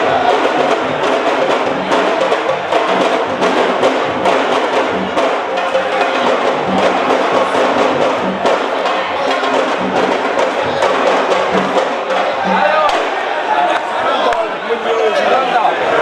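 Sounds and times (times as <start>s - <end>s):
fast percussion drumming: 0.0s - 16.0s.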